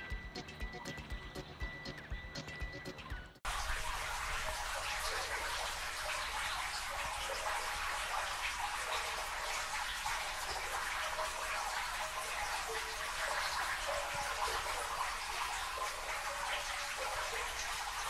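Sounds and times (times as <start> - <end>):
water rushing: 3.5 - 18.0.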